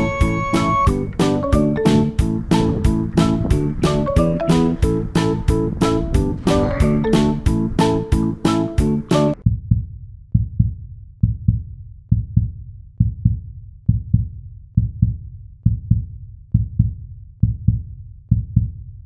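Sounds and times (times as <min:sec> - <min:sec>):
heartbeat-like low thuds: 0:00.0 - 0:19.0.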